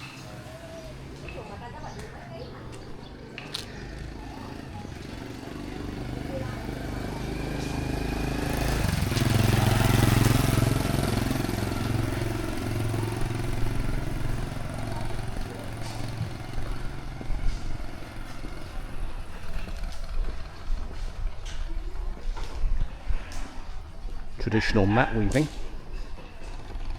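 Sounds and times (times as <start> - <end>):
small motorbike passing: 0.0 - 26.9.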